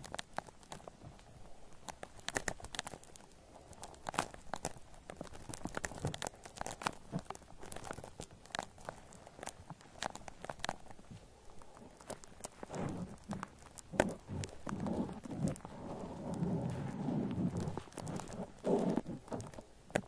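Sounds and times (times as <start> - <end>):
shaving foam crackling: 0.0 - 20.0
soft low squelches: 0.0 - 20.0.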